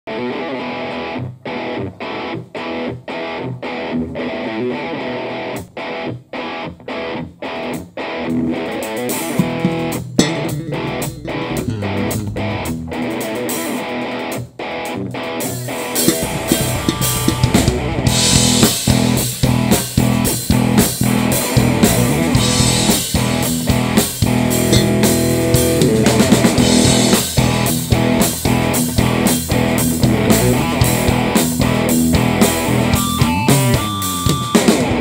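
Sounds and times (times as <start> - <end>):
rock band playing: 0.1 - 35.0.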